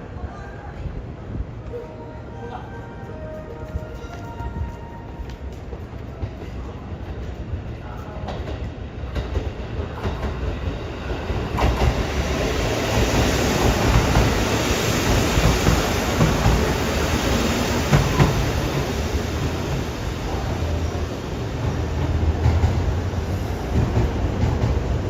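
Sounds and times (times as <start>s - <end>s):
train rumbling on rails: 0.0s - 25.0s.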